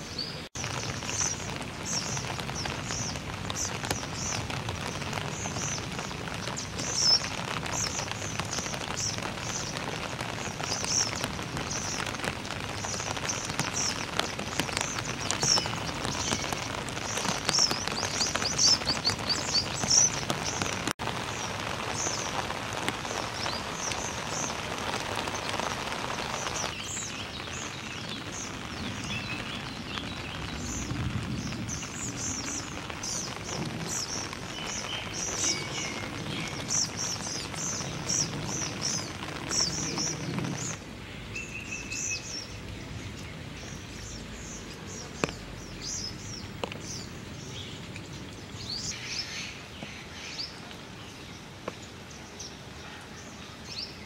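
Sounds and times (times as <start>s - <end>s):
rain falling on foliage: 0.0s - 54.0s
small birds chirping: 0.0s - 54.0s.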